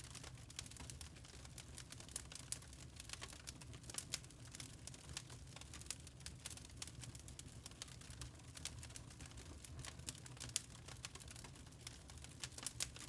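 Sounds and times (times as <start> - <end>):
charcoal crackling and popping: 0.0 - 13.0
low rumble of fire: 0.0 - 13.0.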